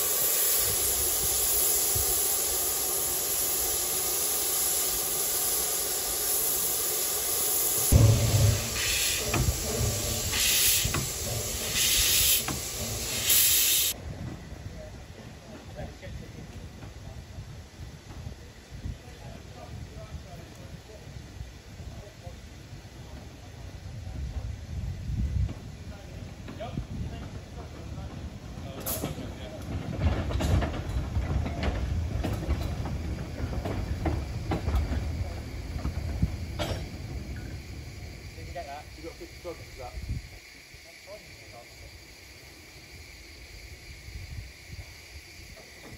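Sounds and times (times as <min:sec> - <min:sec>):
steam locomotive hissing: 0:00.0 - 0:45.9.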